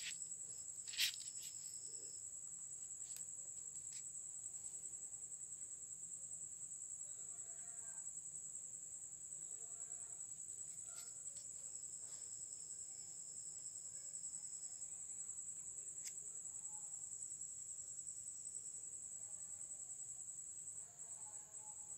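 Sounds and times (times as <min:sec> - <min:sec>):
high-pitched insect trill: 0:00.0 - 0:21.9.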